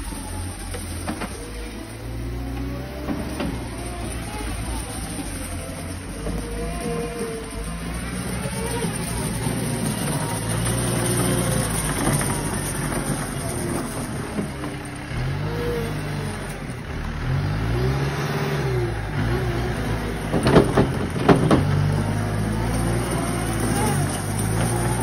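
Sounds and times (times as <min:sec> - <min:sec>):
diesel engine revving: 0:00.0 - 0:25.0.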